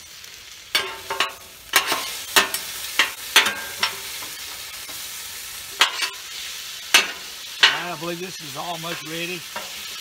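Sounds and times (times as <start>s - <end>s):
food sizzling: 0.0s - 10.0s
spatulas scraping on griddle: 0.7s - 10.0s.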